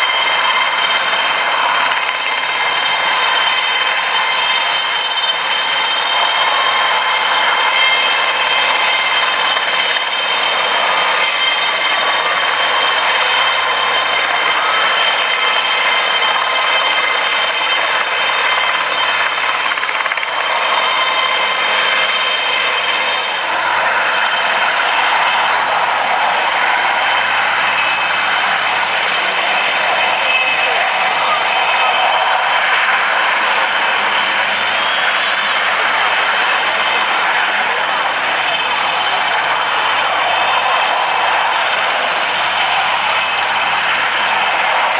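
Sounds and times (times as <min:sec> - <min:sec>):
helicopter engines whining: 0:00.0 - 0:44.9
rotor and engine rush: 0:00.0 - 0:44.9.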